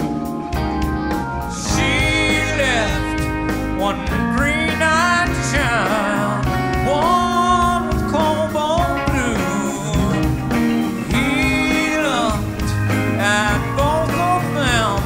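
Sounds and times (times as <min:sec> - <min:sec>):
acoustic guitar: 0:00.0 - 0:15.0
bending lead melody: 0:00.0 - 0:15.0
drums: 0:00.0 - 0:15.0.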